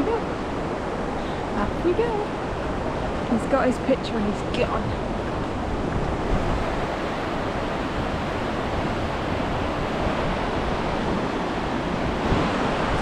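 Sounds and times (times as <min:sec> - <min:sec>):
fast-flowing river water: 0:00.0 - 0:13.0
waterfall roaring: 0:00.0 - 0:13.0.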